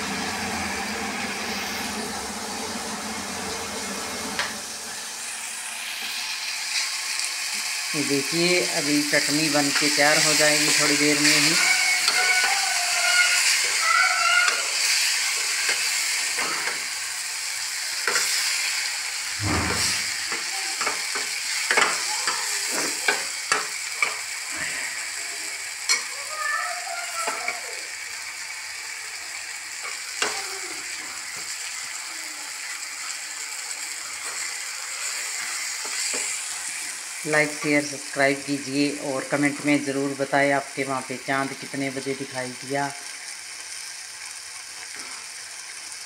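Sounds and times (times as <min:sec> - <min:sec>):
kitchen chimney fan running: 0:00.0 - 0:43.4
food sizzling: 0:00.0 - 0:46.0.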